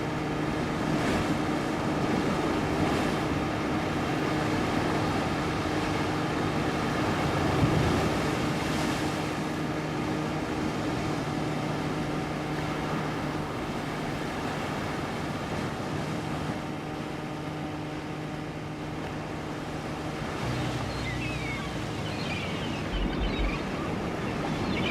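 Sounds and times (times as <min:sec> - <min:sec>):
low steady hum: 0:00.0 - 0:24.9
waves washing: 0:00.0 - 0:24.9
wind: 0:00.0 - 0:24.9.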